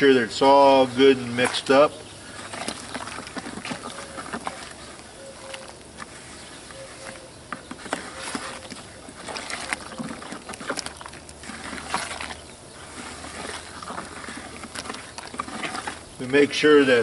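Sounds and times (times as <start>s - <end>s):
spoon scraping slurry in bucket: 0.0s - 17.0s.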